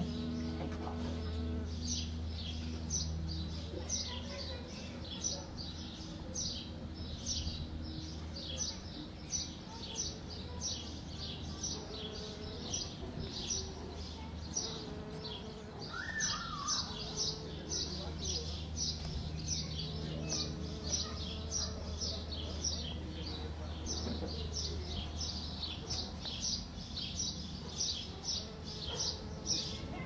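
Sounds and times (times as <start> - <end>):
bumblebee wings humming: 0.0 - 30.0.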